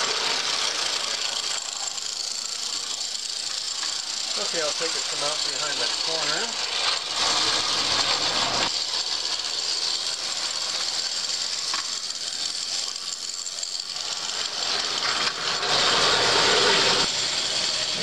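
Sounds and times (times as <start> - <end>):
model train whirring and clattering: 0.0 - 18.0.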